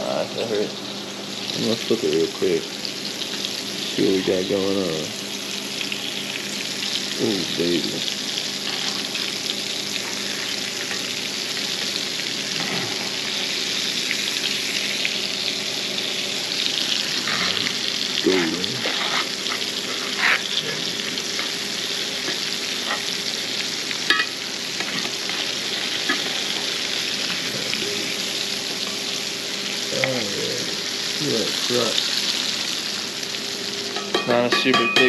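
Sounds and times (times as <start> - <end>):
fish sizzling in hot oil: 0.4 - 34.8.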